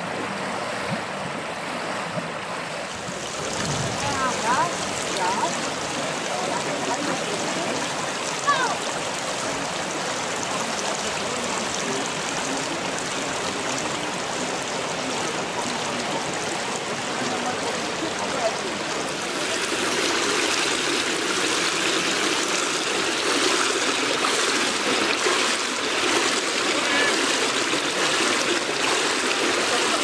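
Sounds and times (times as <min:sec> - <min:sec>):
running water rushing and trickling: 0:00.0 - 0:30.0.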